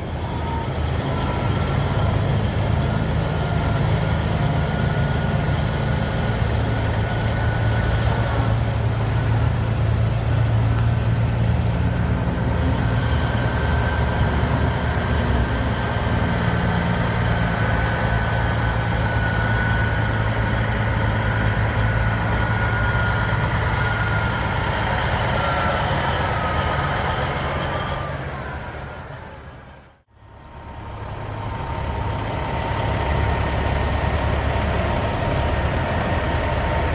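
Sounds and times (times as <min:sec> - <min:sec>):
heavy truck engine running: 0:00.0 - 0:36.9.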